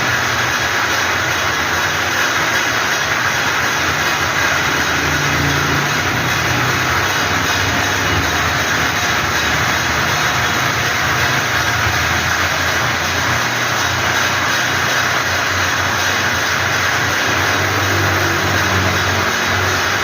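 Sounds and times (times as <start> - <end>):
machine humming and rushing: 0.0 - 20.0.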